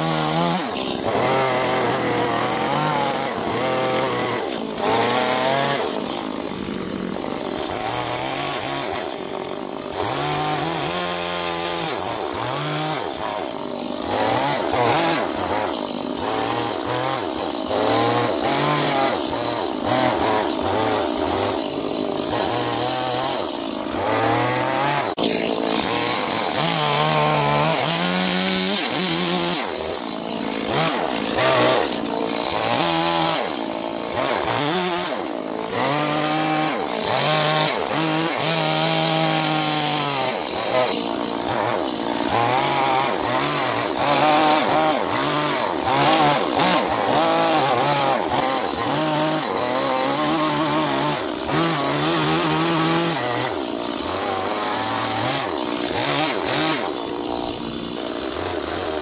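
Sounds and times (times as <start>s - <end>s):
chainsaw cutting into log: 0.0s - 59.0s.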